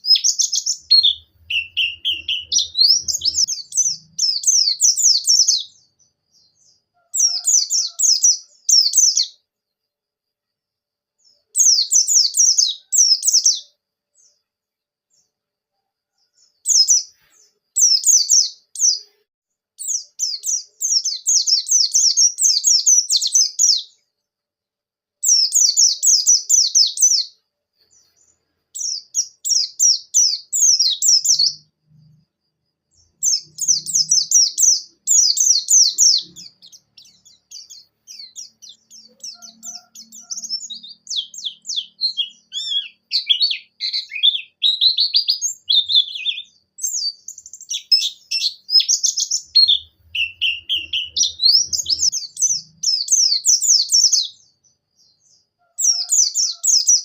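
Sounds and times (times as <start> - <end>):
bird twittering song: 0.0 - 9.4, 11.2 - 14.5, 16.1 - 19.2, 19.8 - 24.3, 25.2 - 57.0.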